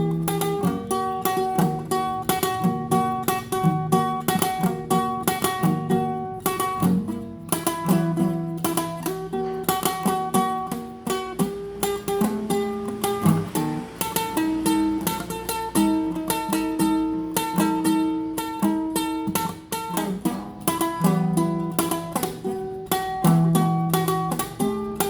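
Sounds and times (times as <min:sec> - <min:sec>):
classical guitar tremolo: 0:00.0 - 0:25.0.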